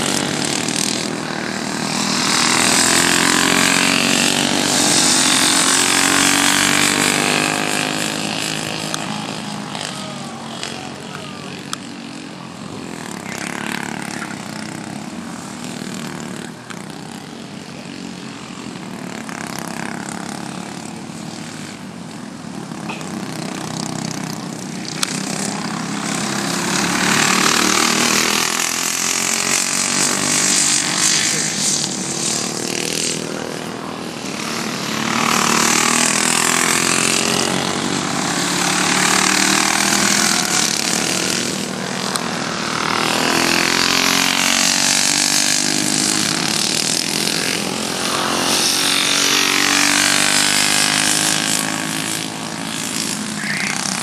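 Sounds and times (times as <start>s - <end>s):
kart engines revving: 0.0s - 54.0s.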